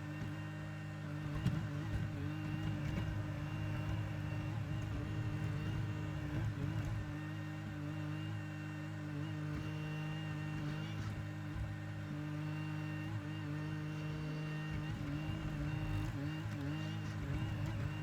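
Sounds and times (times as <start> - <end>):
mini excavator diesel engine: 0.0 - 18.0.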